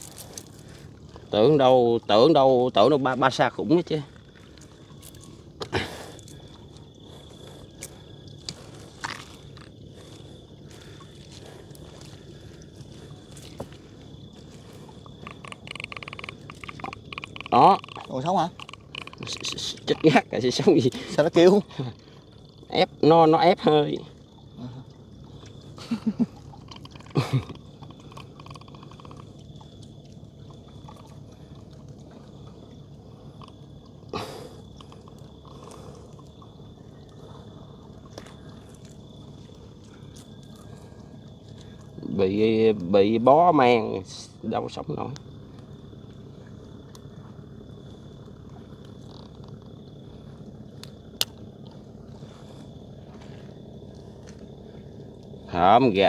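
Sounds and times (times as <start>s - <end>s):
dead fish croaking grunts: 0.0s - 56.0s
insect trill: 0.0s - 56.0s
small boat engine running: 0.0s - 56.0s.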